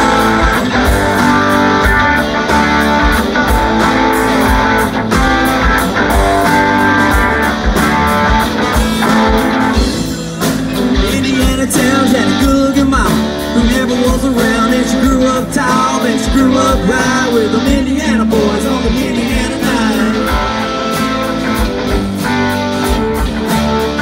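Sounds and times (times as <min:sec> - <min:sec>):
bass guitar: 0:00.0 - 0:24.0
electric guitars: 0:00.0 - 0:24.0
steady drum beat: 0:00.0 - 0:24.0.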